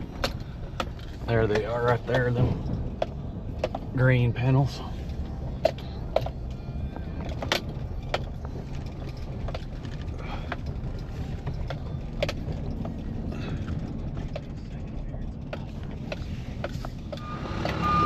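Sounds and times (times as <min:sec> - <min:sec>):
sharp clicks and knocks: 0:00.0 - 0:06.6, 0:07.2 - 0:17.9
vehicle engine rumbling: 0:00.0 - 0:18.0.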